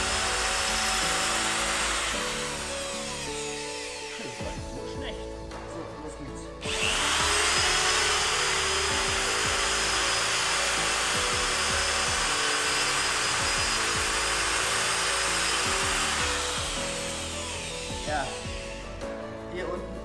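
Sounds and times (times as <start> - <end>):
wood router whining: 0.0 - 4.9, 6.6 - 19.2.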